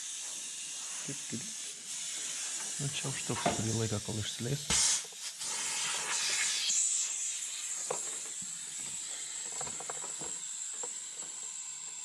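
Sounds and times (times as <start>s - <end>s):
compressed air hissing: 0.0s - 11.9s.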